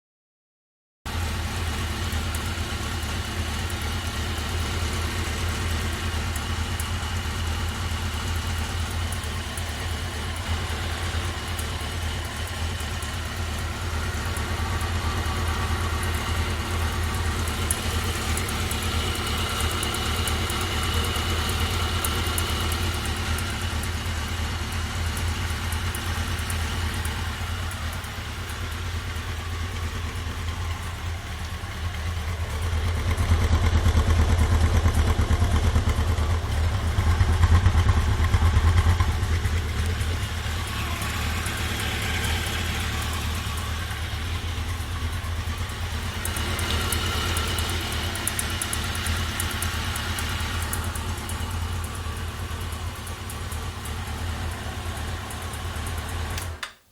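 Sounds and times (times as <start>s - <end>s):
motorcycle engine idling: 1.1s - 56.6s
light engine clicking: 2.1s - 56.8s.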